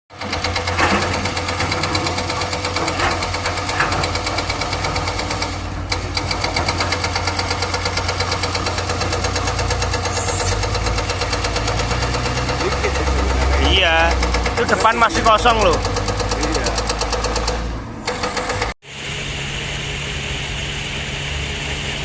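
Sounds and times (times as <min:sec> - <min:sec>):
excavator diesel engine knocking: 0:00.1 - 0:18.8.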